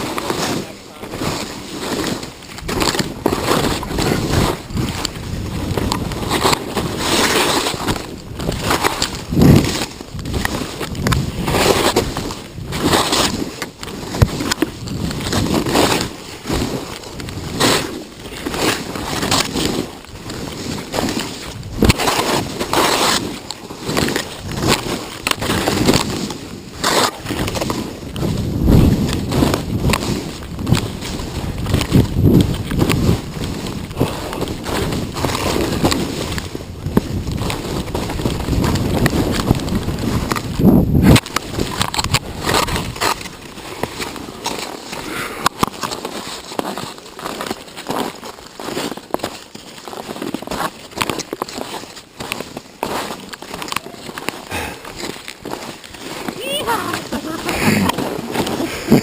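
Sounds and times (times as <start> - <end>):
skis scraping over snow: 0.0 - 59.0.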